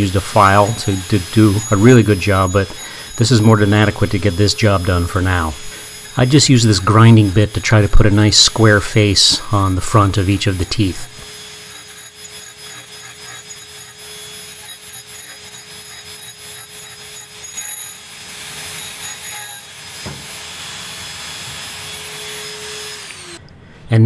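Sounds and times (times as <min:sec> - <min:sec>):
grinding bit on steel: 0:00.0 - 0:23.4
rotary tool motor whine: 0:00.0 - 0:23.4.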